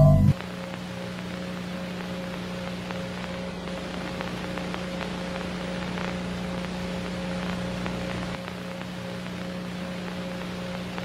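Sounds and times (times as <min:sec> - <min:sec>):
low electrical hum: 0:00.0 - 0:11.0
static hiss with crackles: 0:00.3 - 0:11.0.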